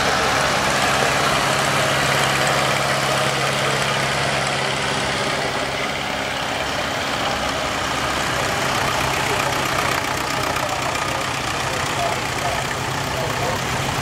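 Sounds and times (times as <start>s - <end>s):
tractor engines running: 0.0s - 14.0s.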